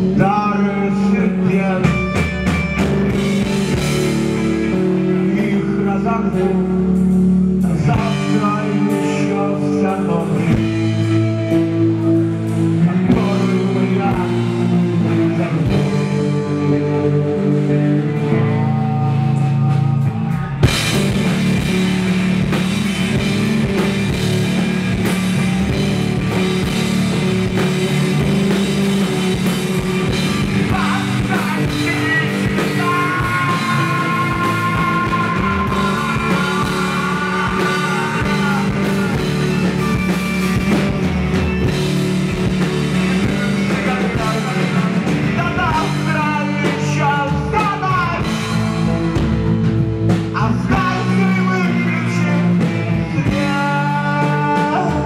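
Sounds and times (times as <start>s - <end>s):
ringing guitar: 0.0s - 54.1s
rock band playing live: 0.0s - 55.0s.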